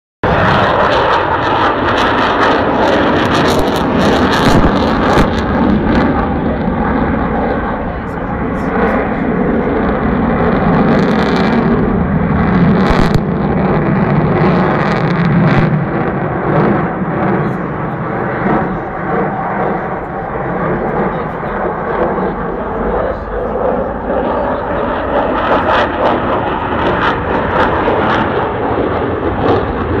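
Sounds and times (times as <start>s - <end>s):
jet engines passing overhead: 0.2s - 30.0s.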